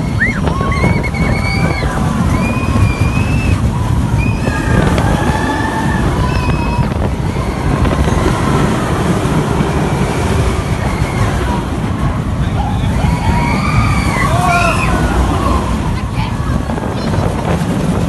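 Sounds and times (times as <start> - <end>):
riders screaming: 0.0 - 17.2
low rumble of moving train: 0.0 - 18.0
wind buffeting microphone: 0.0 - 18.0.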